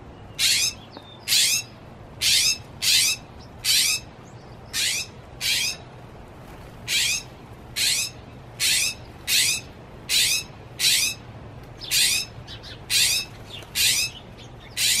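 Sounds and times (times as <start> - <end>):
mockingbird harsh call: 0.4 - 4.1, 4.7 - 5.8, 6.9 - 11.2, 11.8 - 15.0.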